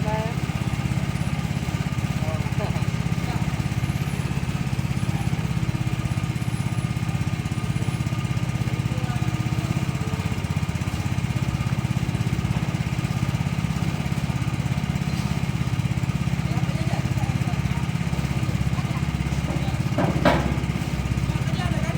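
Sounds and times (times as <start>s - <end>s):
small engine low drone: 0.0s - 21.9s.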